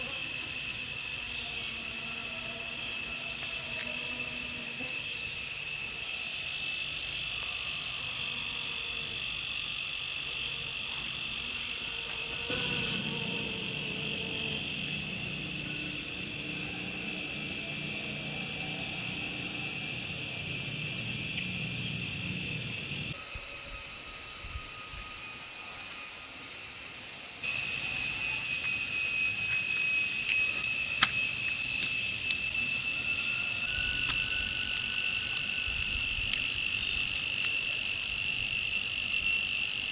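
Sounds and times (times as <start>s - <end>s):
insects chirping: 0.0s - 23.2s, 23.8s - 39.9s.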